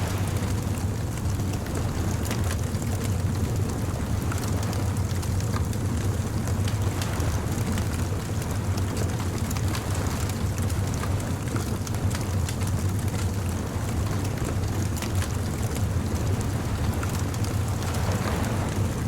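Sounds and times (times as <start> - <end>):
bonfire crackling and popping: 0.0 - 19.0
surf rumbling on beach: 0.0 - 19.0.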